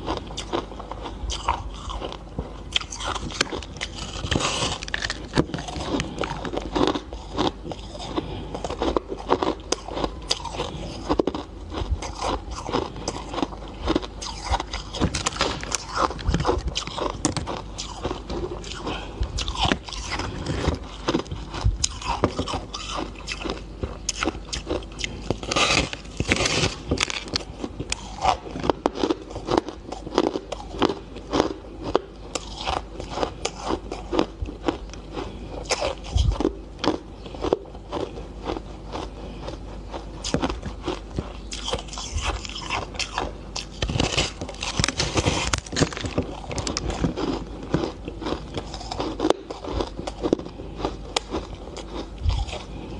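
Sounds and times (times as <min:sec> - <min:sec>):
ice crunching between teeth: 0:00.0 - 0:52.9.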